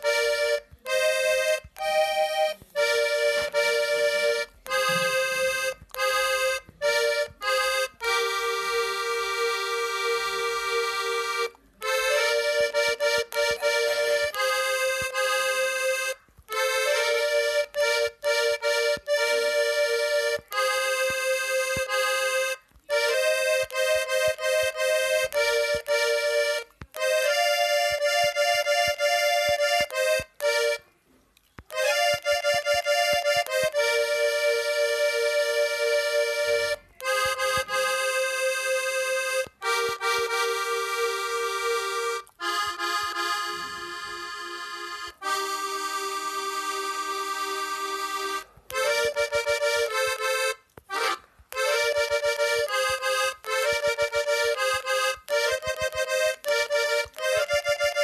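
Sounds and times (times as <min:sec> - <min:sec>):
accordion melody: 0:00.0 - 0:58.0.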